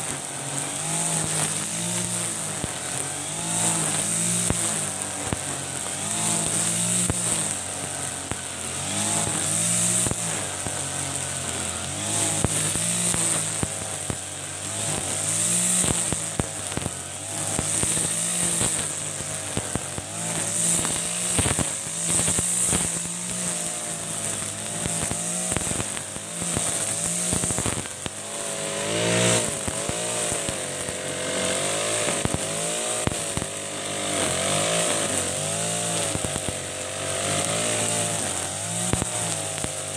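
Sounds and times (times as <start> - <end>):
brush cutter engine revving: 0.0 - 39.9
nylon line cutting grass: 0.0 - 39.9.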